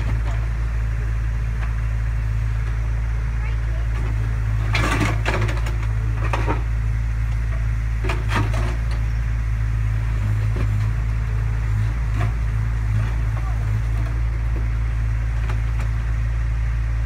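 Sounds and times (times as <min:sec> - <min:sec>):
digger bucket scraping rubble: 0:00.0 - 0:16.4
diesel engine running: 0:00.0 - 0:17.0.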